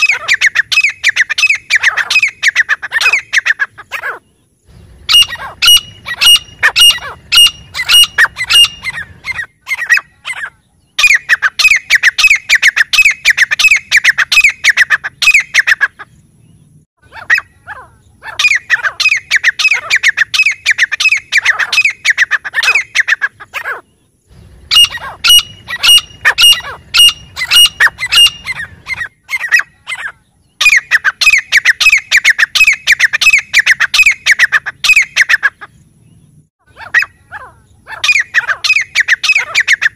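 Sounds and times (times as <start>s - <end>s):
francolins calling: 0.0s - 39.9s.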